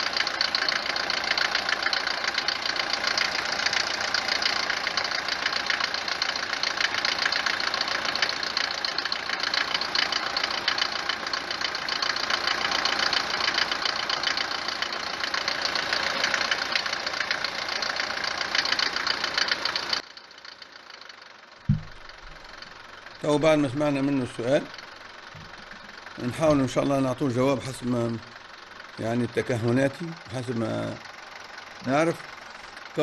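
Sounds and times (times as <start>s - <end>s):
diesel engine idling with knock: 0.0s - 33.0s.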